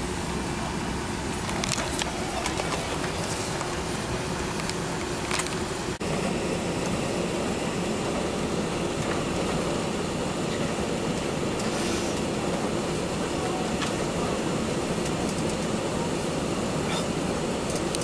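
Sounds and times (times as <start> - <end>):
air conditioning running: 0.0 - 18.0
jet engines idling: 0.0 - 18.0.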